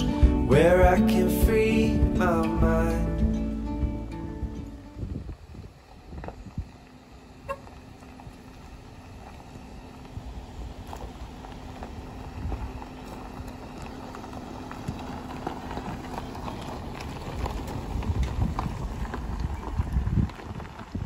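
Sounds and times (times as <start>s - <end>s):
low engine rumble: 0.0s - 21.0s
tyres crunching over gravel: 0.0s - 21.0s.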